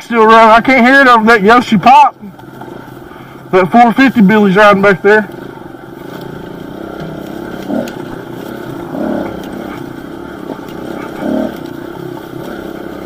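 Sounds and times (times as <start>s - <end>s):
dirt bike engines idling: 0.0s - 13.0s.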